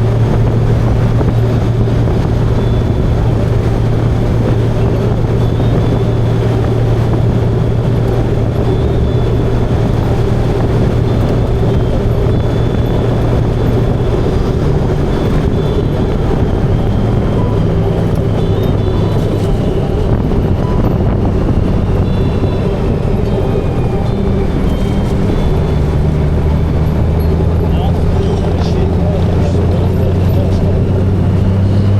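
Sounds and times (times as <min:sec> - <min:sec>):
motorcycle engine cruising: 0:00.0 - 0:31.9.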